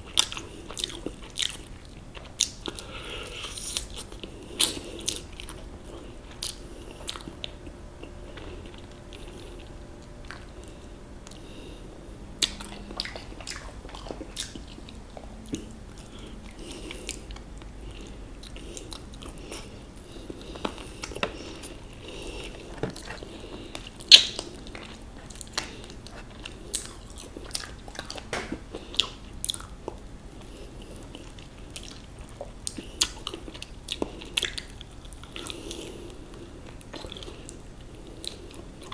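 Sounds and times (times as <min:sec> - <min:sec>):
crunchy chewing of fried chicken: 0:00.0 - 0:09.3, 0:12.4 - 0:38.9.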